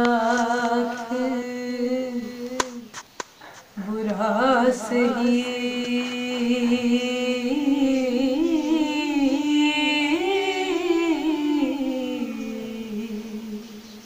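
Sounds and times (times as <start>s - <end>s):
woman singing wordless melody: 0.0s - 3.0s, 3.8s - 14.0s.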